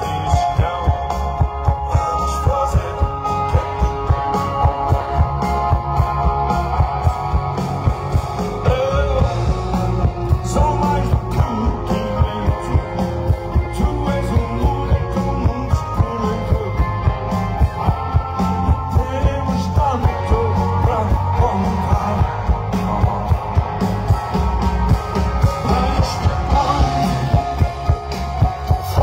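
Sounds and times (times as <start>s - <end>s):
man singing: 0.0s - 7.0s, 8.3s - 24.2s, 25.1s - 29.0s
live rock band playing: 0.0s - 29.0s.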